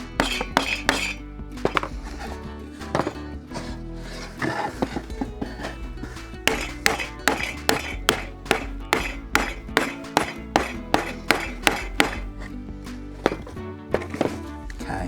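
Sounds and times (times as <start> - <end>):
rubber mallet knocking on wood: 0.0 - 3.2, 4.2 - 14.5
background music: 0.0 - 15.0.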